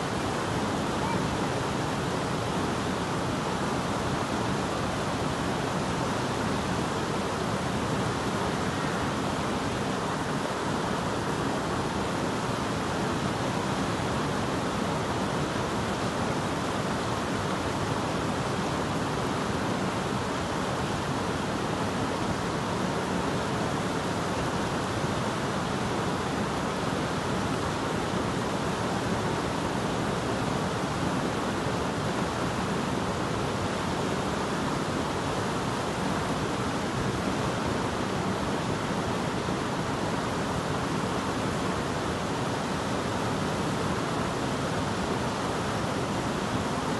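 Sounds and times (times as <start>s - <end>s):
mountain stream flowing over rocks: 0.0s - 46.9s.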